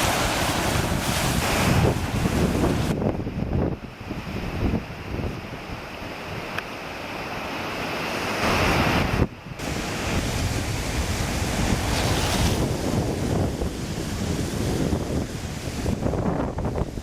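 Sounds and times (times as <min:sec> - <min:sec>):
wind buffeting microphone: 0:00.0 - 0:06.5, 0:08.4 - 0:17.0
river water rushing: 0:00.0 - 0:16.8.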